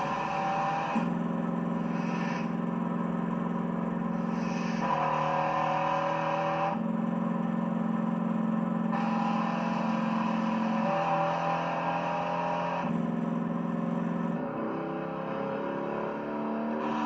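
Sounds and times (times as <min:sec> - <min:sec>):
car engines running: 0:00.0 - 0:17.0.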